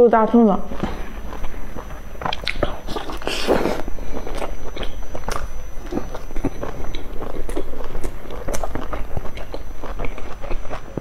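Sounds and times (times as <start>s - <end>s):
chewing and biting flatbread: 0.3s - 11.0s.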